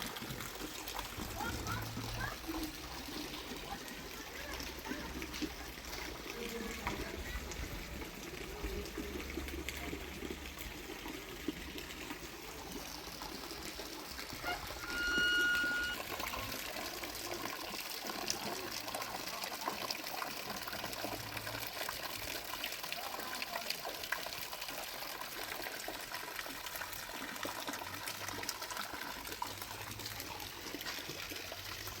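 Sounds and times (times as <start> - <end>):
rain pattering: 0.0 - 32.0.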